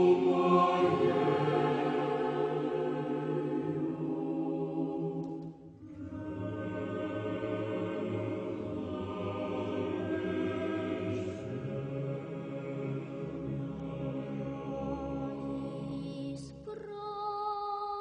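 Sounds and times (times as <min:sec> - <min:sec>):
choir singing sacred chant: 0:00.0 - 0:16.8.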